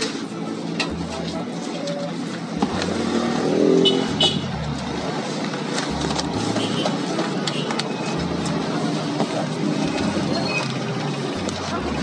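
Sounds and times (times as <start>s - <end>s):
motorbikes passing: 0.0s - 12.0s
street traffic: 0.0s - 12.0s.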